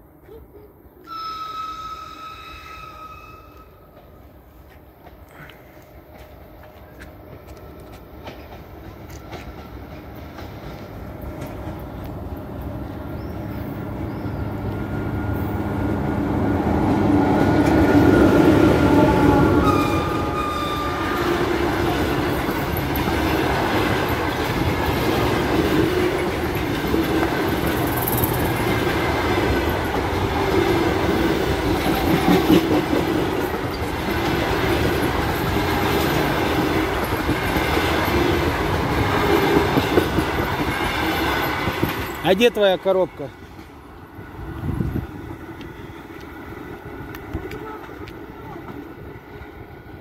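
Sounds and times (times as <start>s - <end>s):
passenger train passing: 0.0s - 50.0s.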